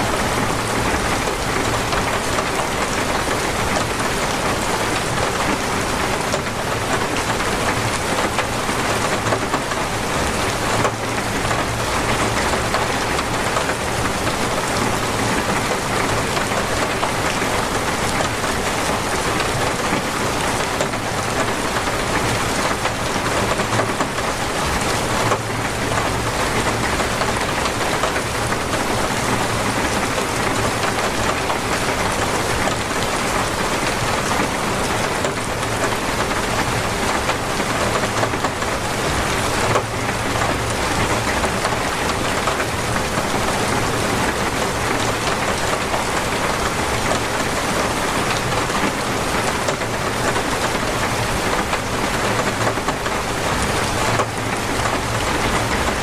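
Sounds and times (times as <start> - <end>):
heavy rain drumming: 0.0 - 56.0.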